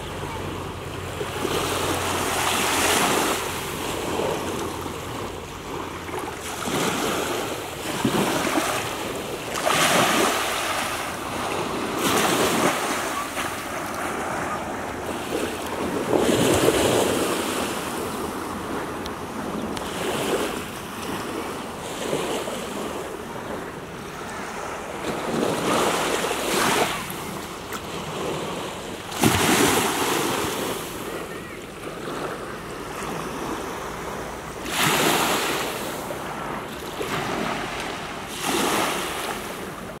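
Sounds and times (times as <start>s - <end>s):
small waves washing on shore: 0.0s - 40.0s.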